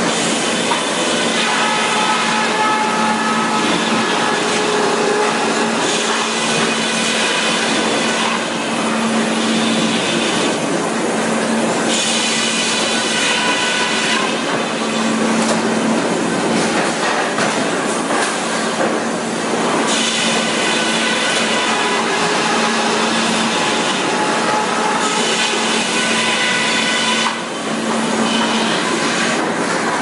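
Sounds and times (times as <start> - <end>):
sawmill machinery grinding: 0.0 - 30.0.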